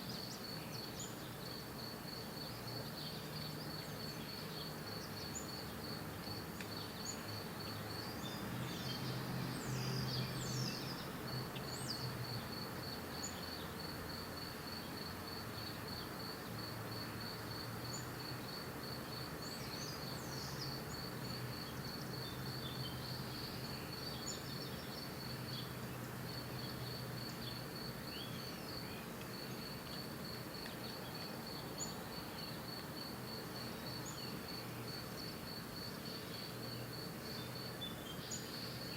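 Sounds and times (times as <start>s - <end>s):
insect chirping: 0.0s - 38.9s
outdoor hiss: 0.0s - 38.9s.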